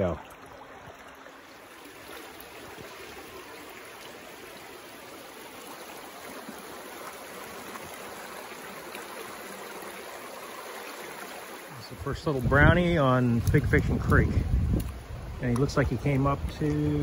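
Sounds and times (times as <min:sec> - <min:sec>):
creek water rushing over stones: 0:00.0 - 0:17.0.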